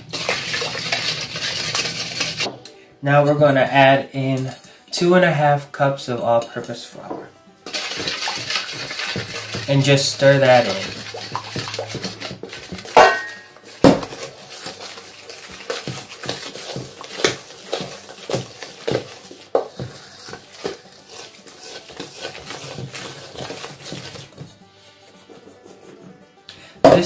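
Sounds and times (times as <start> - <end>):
wooden spoon scraping metal bowl: 0.0 - 2.5, 6.3 - 27.0.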